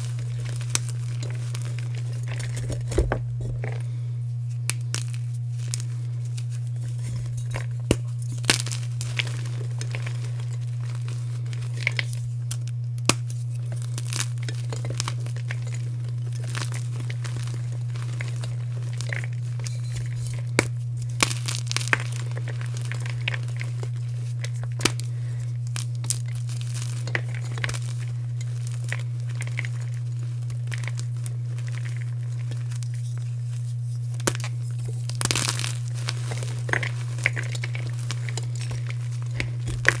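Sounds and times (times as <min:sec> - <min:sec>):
chalk crunching and crackling: 0:00.0 - 0:40.0
steady low hum: 0:00.0 - 0:40.0.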